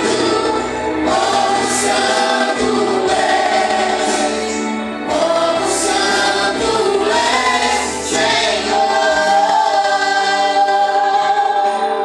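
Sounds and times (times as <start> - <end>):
group singing worship song: 0.0 - 12.0.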